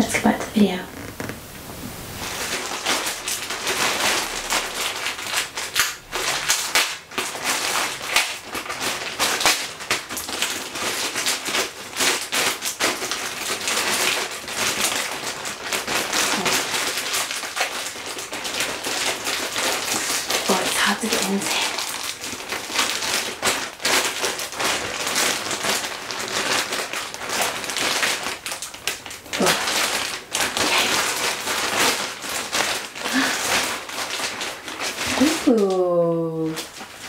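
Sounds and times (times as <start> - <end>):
plastic bag crinkling: 0.0 - 37.0.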